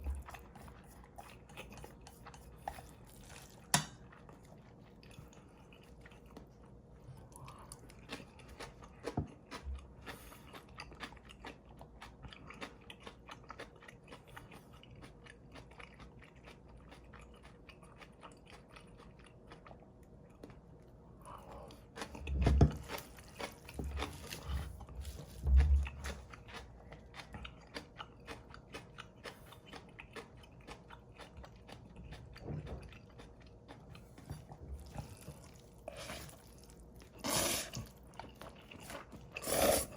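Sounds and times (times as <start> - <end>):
chewing noodles: 0.0 - 39.9.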